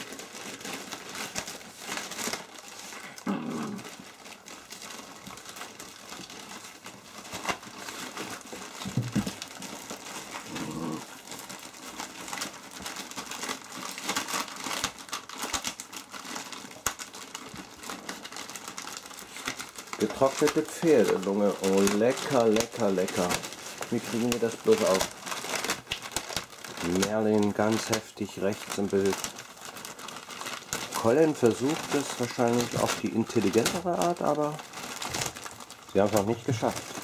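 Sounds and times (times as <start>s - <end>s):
plastic bag crinkling: 0.0s - 37.0s.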